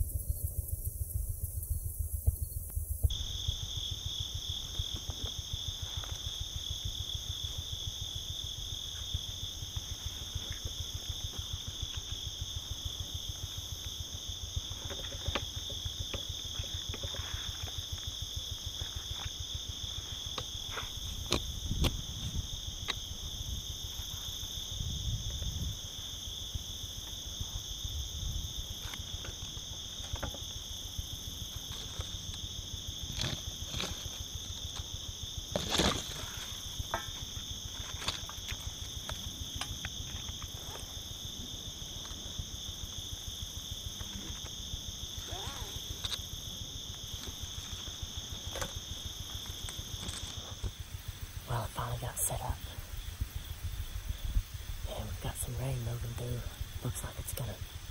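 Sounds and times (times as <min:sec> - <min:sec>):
night insects chirring: 0:00.0 - 0:57.9.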